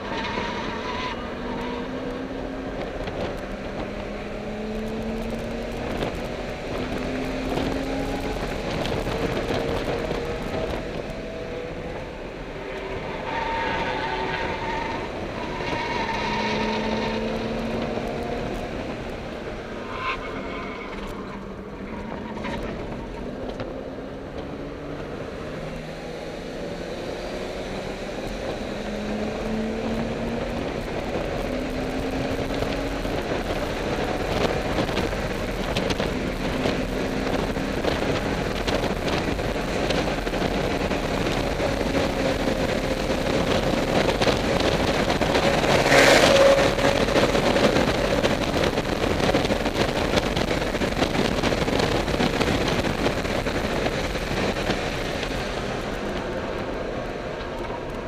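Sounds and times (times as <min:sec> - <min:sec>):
car engine accelerating through gears: 0:00.0 - 0:58.0
wind and road noise: 0:00.0 - 0:58.0
loud rush of noise: 0:02.2 - 0:58.0.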